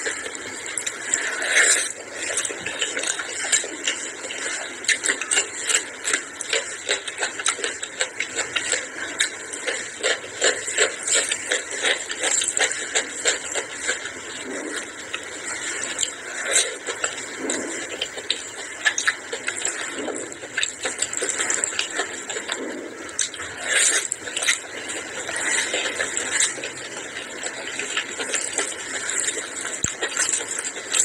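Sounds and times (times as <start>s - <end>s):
chewing clicks and lip smacks: 0.0s - 31.0s.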